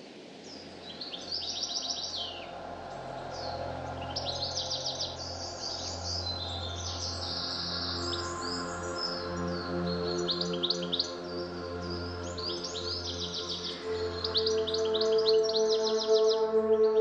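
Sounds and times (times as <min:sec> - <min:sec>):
bird chirps: 0:00.4 - 0:17.0.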